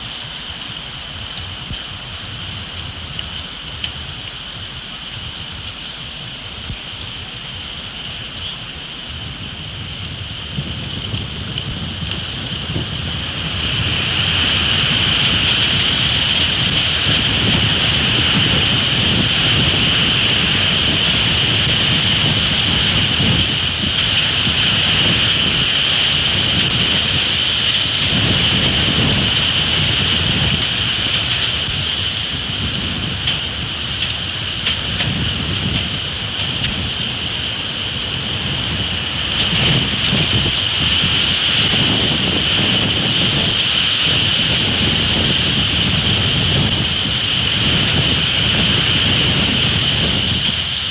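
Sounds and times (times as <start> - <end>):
gusty wind buffeting microphone: 0.0 - 50.9.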